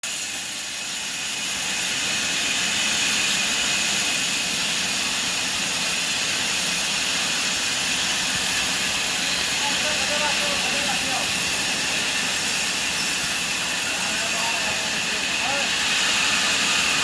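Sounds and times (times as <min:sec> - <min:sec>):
sawmill saw running: 0:00.0 - 0:17.0.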